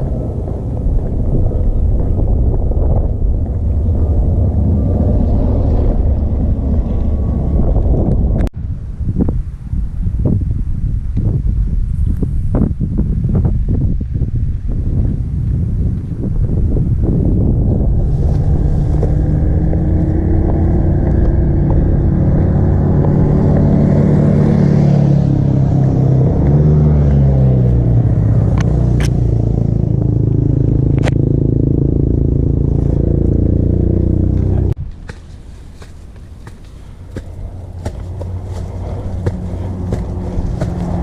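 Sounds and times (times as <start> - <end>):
vehicle engine running: 0.0 - 8.5, 15.3 - 34.8, 35.8 - 41.0.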